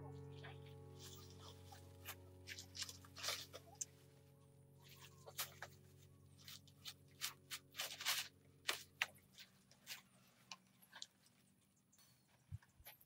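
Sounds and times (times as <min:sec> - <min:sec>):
dry thatch crackling and rustling: 0:00.4 - 0:11.4.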